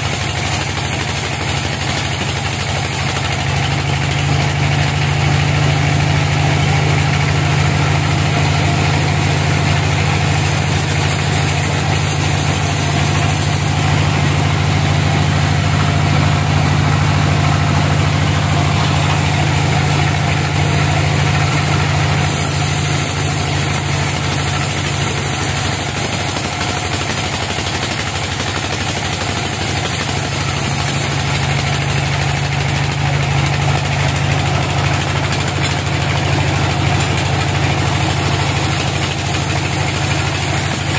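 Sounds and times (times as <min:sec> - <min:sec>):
sawmill machine drone: 0:00.0 - 0:40.9.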